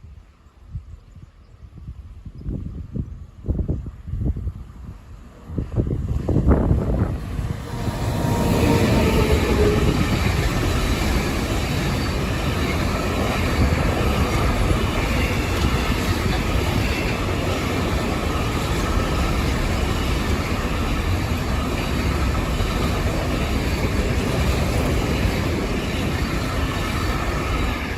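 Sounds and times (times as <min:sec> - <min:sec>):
train passing on tracks: 0:00.0 - 0:27.9.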